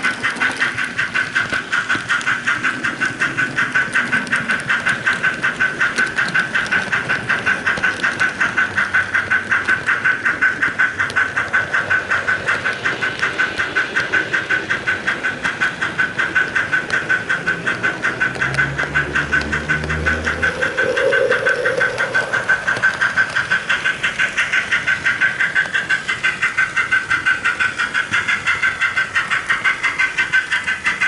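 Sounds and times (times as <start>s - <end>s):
model train whirring on track: 0.0s - 31.0s.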